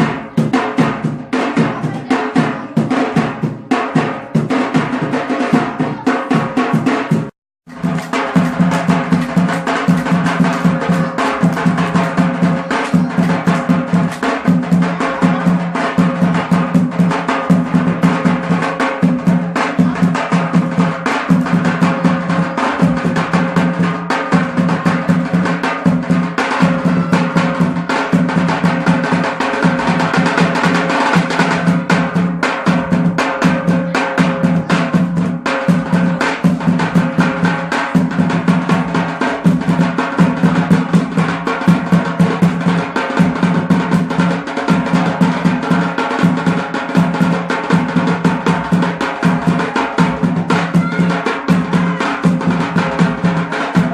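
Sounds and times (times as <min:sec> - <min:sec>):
drums beaten in fast rhythm: 0:00.0 - 0:53.9.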